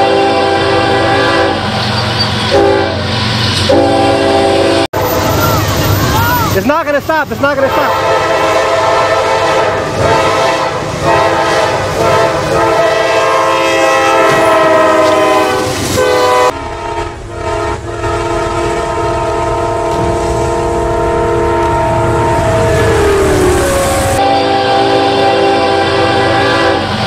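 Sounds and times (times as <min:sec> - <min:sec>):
locomotive air horn chords: 0:00.0 - 0:05.3, 0:07.6 - 0:27.0
train rumble: 0:00.0 - 0:27.0.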